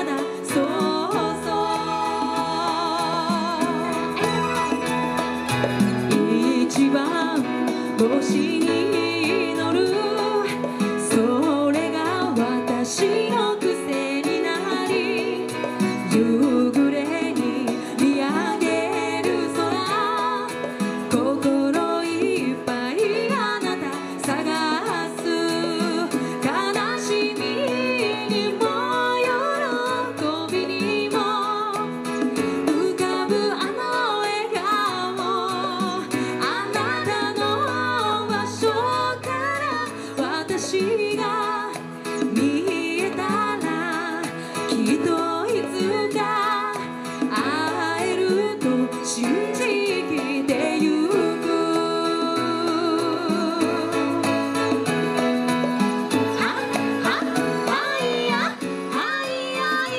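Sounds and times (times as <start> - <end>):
women singing: 0.0 - 5.0, 5.8 - 59.9
plucked string accompaniment: 0.0 - 59.9.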